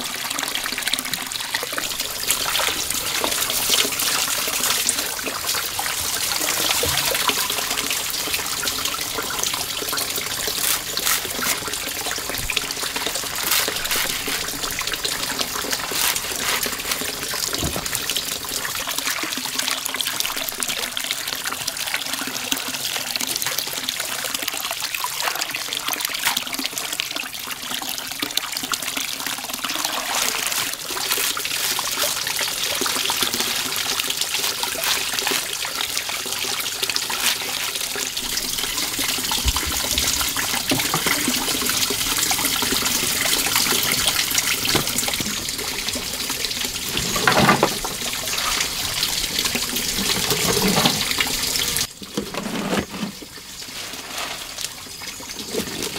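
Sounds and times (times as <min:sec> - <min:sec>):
running water trickling and splashing: 0:00.0 - 0:55.9.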